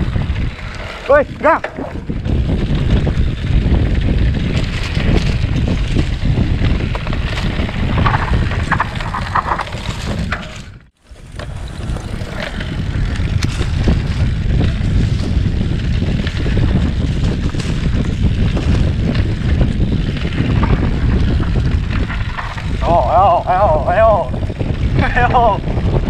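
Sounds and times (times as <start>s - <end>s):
bike knocks and rattles: 0.0s - 23.4s
wind buffeting microphone: 0.0s - 26.0s.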